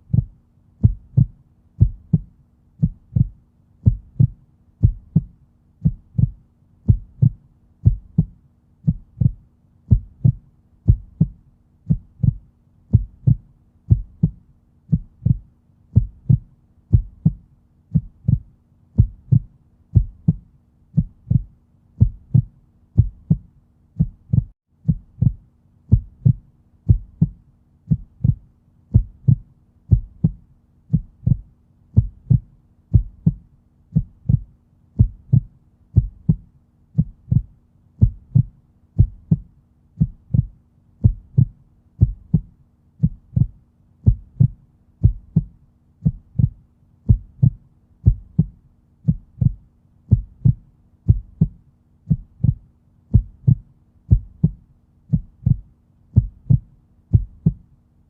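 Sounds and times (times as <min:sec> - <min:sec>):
heartbeat thumps: 0:00.0 - 0:57.7
faint steady hum: 0:00.0 - 0:58.0.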